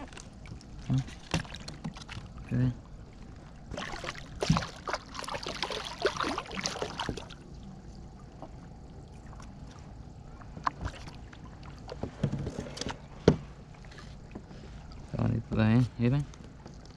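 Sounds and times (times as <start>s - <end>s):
water splashing and sloshing: 0.0s - 16.9s.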